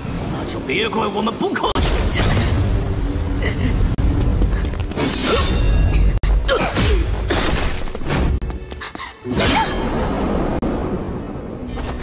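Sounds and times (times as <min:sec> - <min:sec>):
dramatic background music: 0:00.0 - 0:12.0.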